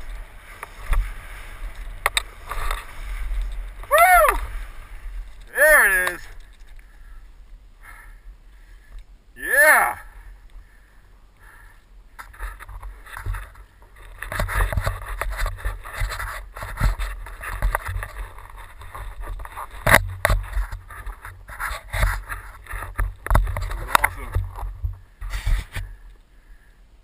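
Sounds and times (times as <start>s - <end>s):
mountain bike scraping and clicking: 0.0s - 9.1s, 11.4s - 26.2s.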